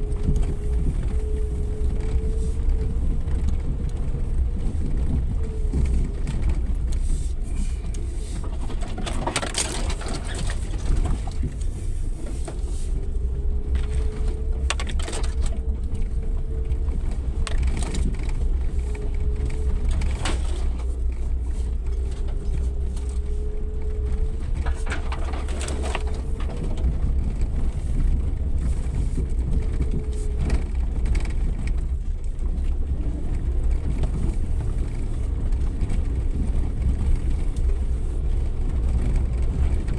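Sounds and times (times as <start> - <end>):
vehicle engine rumble: 0.0 - 39.9
wavering drivetrain whine: 0.0 - 39.9.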